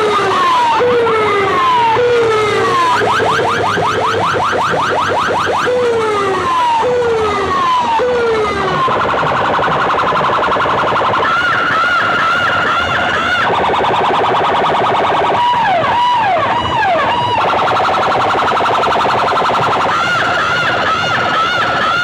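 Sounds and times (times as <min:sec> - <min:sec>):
electronic siren tones over speakers: 0:00.0 - 0:22.0.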